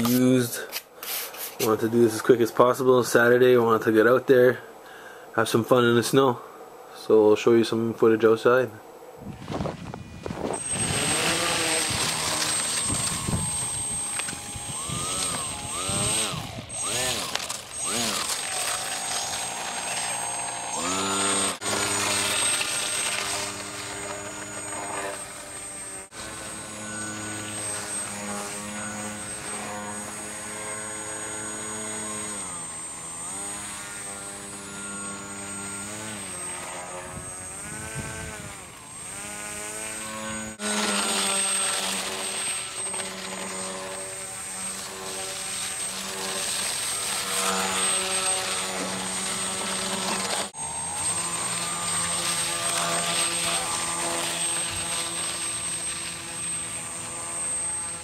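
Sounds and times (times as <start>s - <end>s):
electric motor driving propeller: 9.2s - 58.0s.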